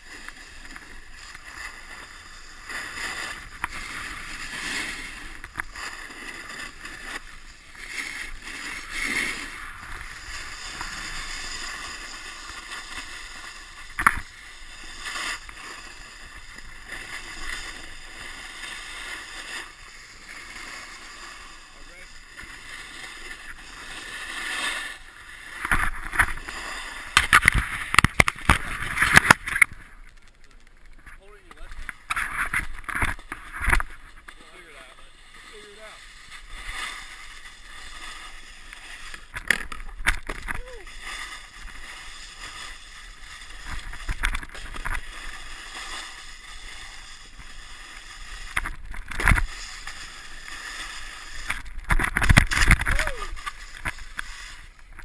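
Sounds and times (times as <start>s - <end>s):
snowboard scraping on icy snow: 0.0s - 55.0s.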